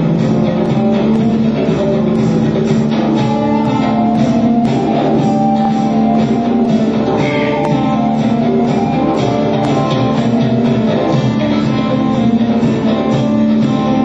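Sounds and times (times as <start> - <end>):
dance music: 0.0 - 14.0
low drone note: 0.0 - 14.0
plucked strings: 0.0 - 14.0.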